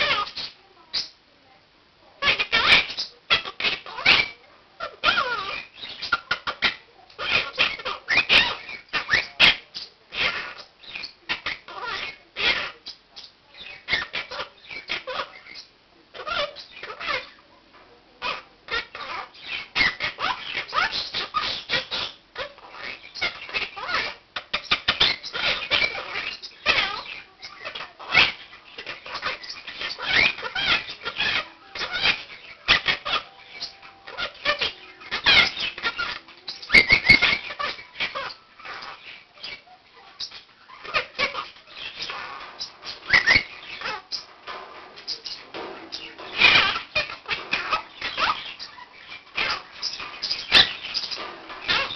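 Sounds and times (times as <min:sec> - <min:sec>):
parakeets chattering and squawking: 0:00.0 - 0:01.2, 0:02.1 - 0:51.9.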